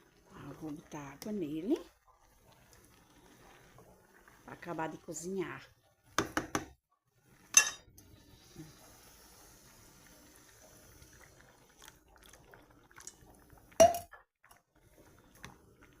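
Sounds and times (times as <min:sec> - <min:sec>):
liquid hissing in a pot: 0:00.0 - 0:06.2, 0:07.2 - 0:13.8.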